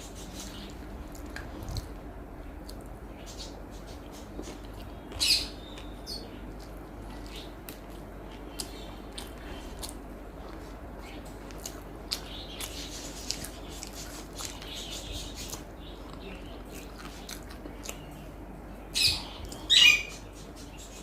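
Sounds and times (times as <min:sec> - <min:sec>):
person chewing: 0:00.0 - 0:19.9.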